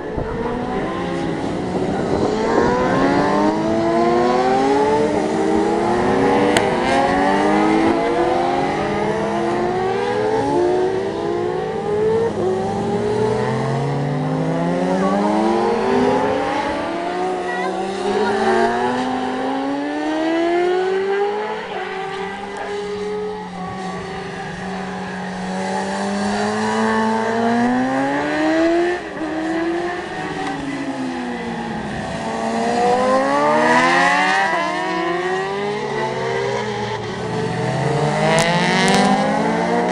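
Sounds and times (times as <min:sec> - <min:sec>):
racing motorcycles revving: 0:00.0 - 0:39.9.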